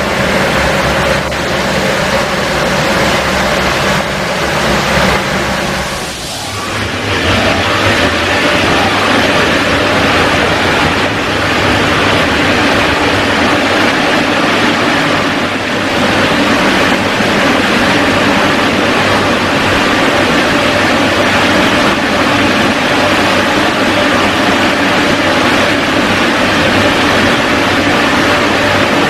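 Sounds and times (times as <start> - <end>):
blower fans rushing air: 0.0 - 29.0
low hum of blower motors: 0.0 - 29.0.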